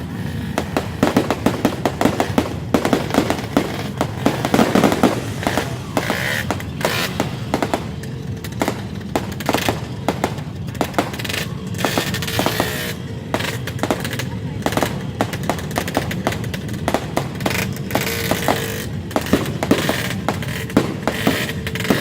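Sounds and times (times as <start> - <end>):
fireworks cracking and banging: 0.0 - 22.0.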